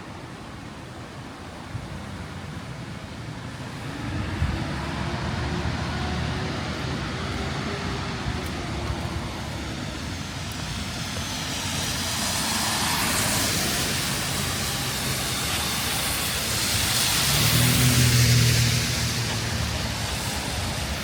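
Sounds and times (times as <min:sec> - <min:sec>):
tyres hissing on wet road: 0:00.0 - 0:21.0
vehicle engine hum: 0:02.0 - 0:21.0.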